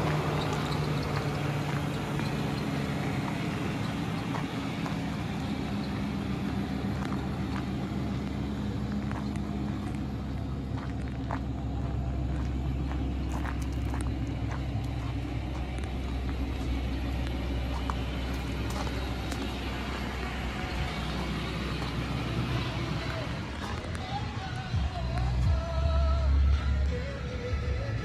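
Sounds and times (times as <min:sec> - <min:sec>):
footsteps on gravel: 0:00.0 - 0:25.8
truck engine idling: 0:00.0 - 0:28.0.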